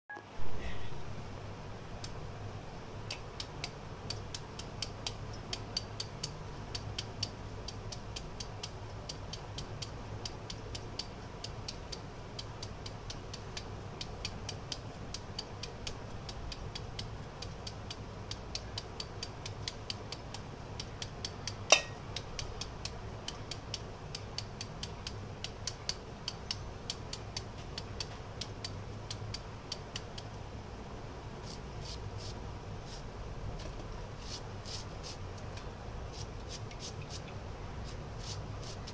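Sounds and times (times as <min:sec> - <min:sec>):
steady low hum: 0:00.1 - 0:38.9
knife cutting beetroot: 0:03.0 - 0:30.3, 0:31.4 - 0:35.2, 0:36.1 - 0:38.9.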